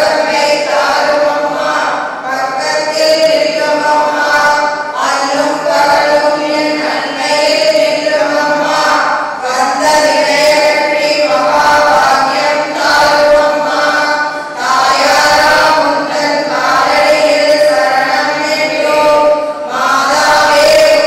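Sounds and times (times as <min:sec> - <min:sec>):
woman leading chant through microphone: 0:00.0 - 0:21.0
women chanting in unison: 0:00.0 - 0:21.0.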